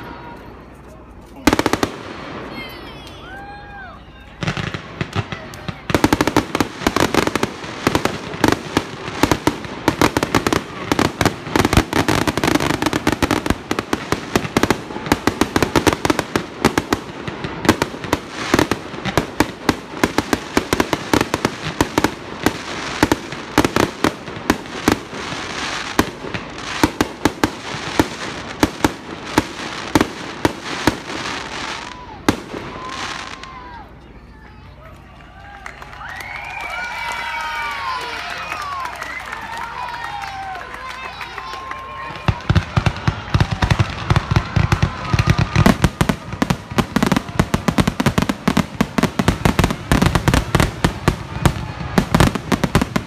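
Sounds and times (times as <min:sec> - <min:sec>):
fireworks crackling: 0:00.0 - 0:53.0
fireworks bangs and pops: 0:00.9 - 0:03.3, 0:04.3 - 0:33.6, 0:41.2 - 0:53.0.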